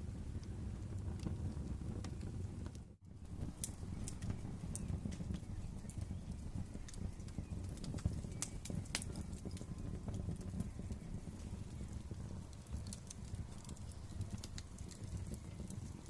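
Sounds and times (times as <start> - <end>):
low rumble of flames: 0.0 - 16.0
wood fire pops and snaps: 0.0 - 16.0.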